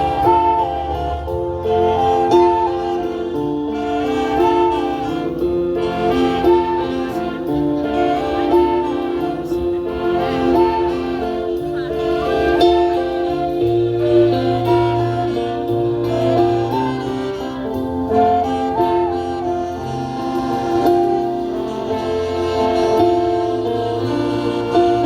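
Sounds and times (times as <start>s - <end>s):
orchestra playing: 0.0s - 25.0s.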